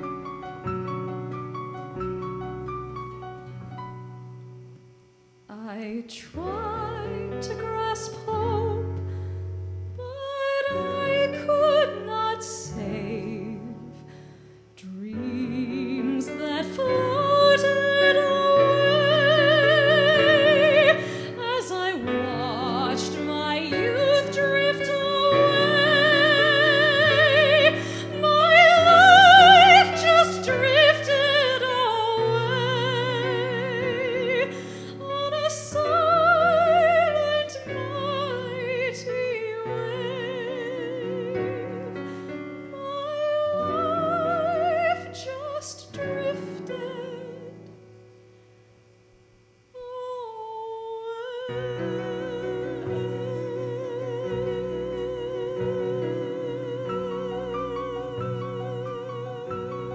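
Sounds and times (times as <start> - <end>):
woman singing a slow ballad: 5.5 - 9.1, 10.0 - 47.8, 49.8 - 59.9.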